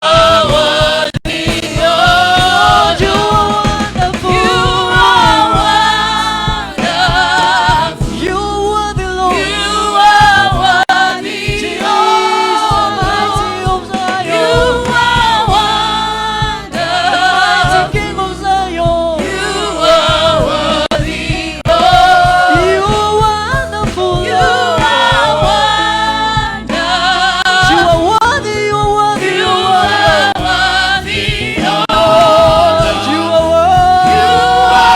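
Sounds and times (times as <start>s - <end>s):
instrumental backing: 0.0s - 34.9s
voices singing together: 0.0s - 34.9s.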